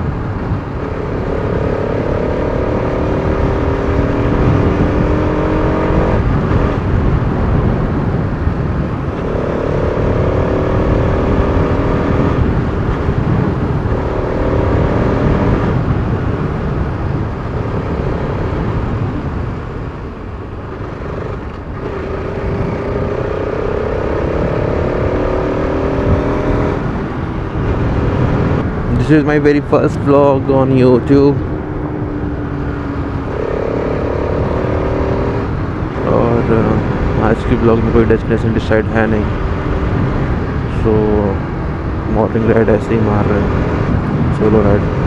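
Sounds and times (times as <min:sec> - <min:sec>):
motorcycle engine revving: 0:00.0 - 0:45.0
wind and road noise: 0:00.0 - 0:45.0.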